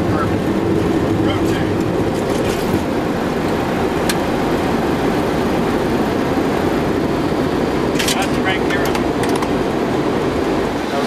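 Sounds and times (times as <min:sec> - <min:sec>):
jet engine and airflow noise: 0:00.0 - 0:11.0.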